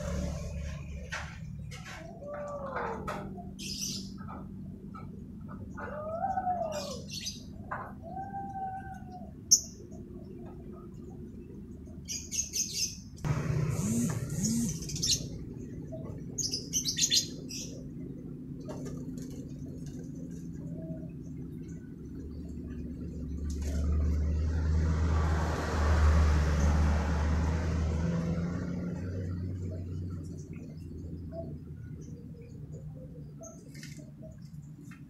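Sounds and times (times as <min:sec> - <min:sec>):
low rumble with hiss: 0:00.0 - 0:35.0.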